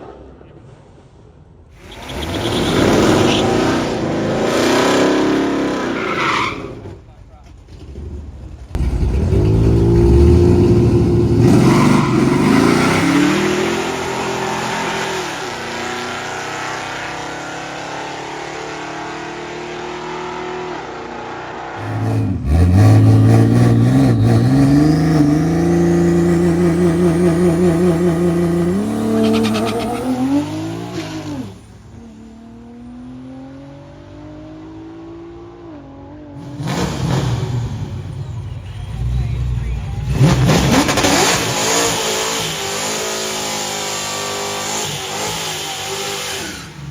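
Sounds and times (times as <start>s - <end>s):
drag racing cars accelerating: 0.0s - 46.9s.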